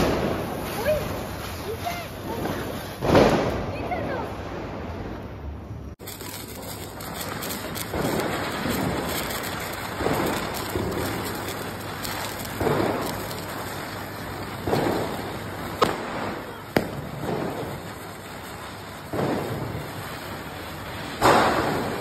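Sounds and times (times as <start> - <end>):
firecracker bangs: 0.0 - 4.9, 6.0 - 22.0
firecrackers crackling: 0.0 - 5.3, 5.9 - 22.0.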